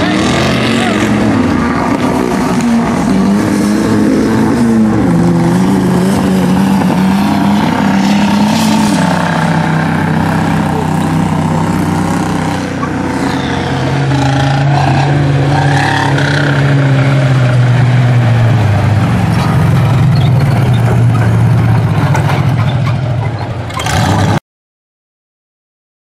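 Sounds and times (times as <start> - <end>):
off-road vehicle engines revving: 0.0 - 24.4.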